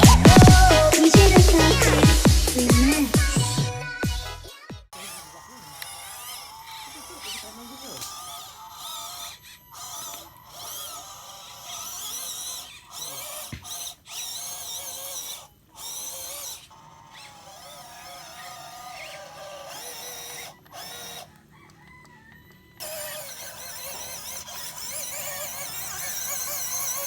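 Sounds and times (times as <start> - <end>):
small electric motor whining: 0.0 - 27.0.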